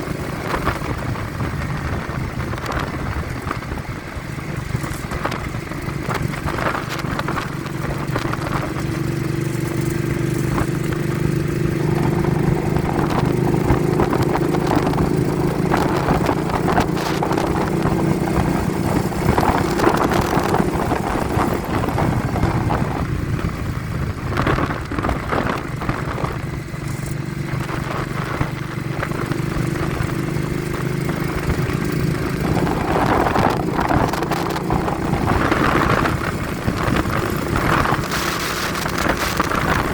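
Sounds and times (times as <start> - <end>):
vehicle engine running: 0.0 - 39.9
wind buffeting microphone: 0.0 - 39.9.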